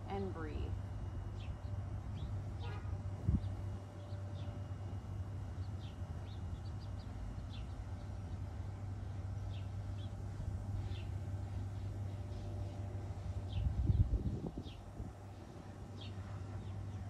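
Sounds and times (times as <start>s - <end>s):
low steady hum: 0.0s - 17.0s
small birds chirping: 1.3s - 4.7s, 5.5s - 17.0s.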